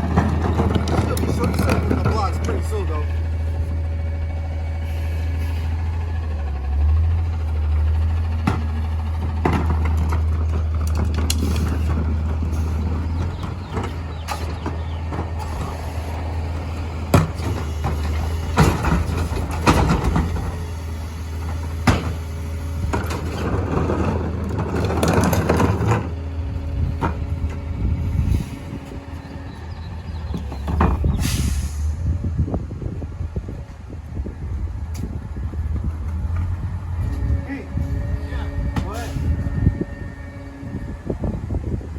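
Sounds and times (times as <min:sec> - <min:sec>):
garbage truck engine hum: 0:00.0 - 0:41.9.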